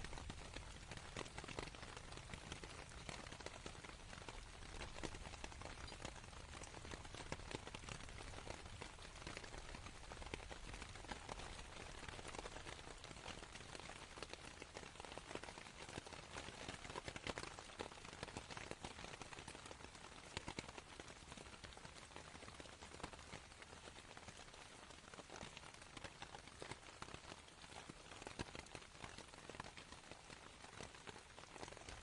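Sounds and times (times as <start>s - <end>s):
rain on a canvas tent: 0.0s - 32.0s.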